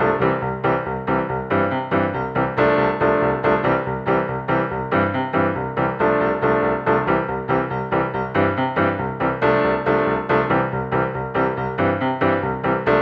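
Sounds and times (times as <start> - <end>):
lively piano music: 0.0 - 13.0.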